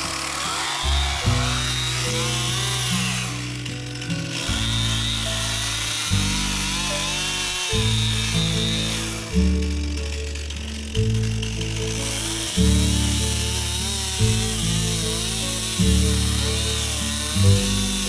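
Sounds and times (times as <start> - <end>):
chainsaw cutting: 0.0 - 18.0
music with bass notes: 0.0 - 18.0.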